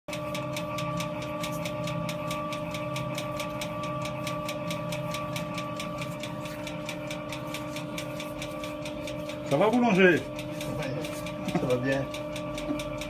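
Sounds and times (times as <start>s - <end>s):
regular clicking: 0.1s - 13.0s
small machine humming: 0.1s - 13.0s.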